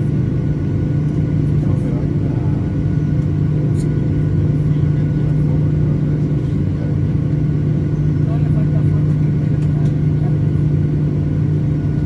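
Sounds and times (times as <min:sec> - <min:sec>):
jet engines droning: 0:00.0 - 0:12.0.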